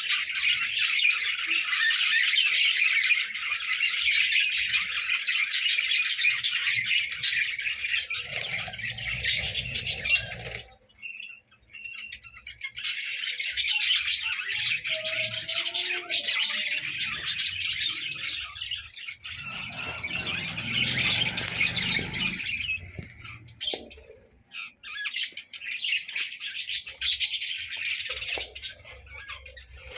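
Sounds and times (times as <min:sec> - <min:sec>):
budgerigars chattering and chirping: 0:00.0 - 0:29.9.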